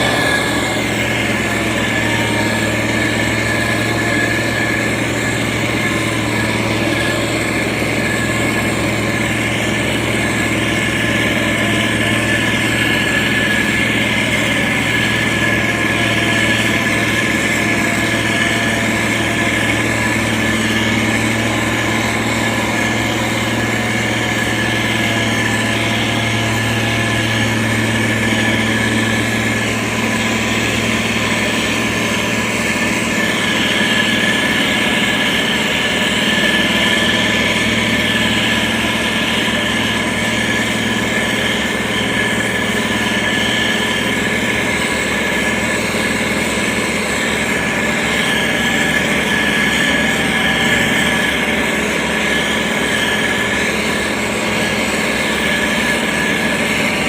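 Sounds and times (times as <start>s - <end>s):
diesel engine running: 0.0s - 57.0s
thin high whine: 0.0s - 57.0s.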